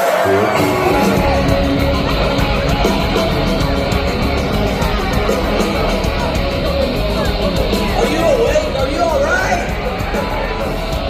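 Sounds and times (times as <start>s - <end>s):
distorted electric guitar riff: 0.0s - 11.0s
drums: 0.0s - 11.0s.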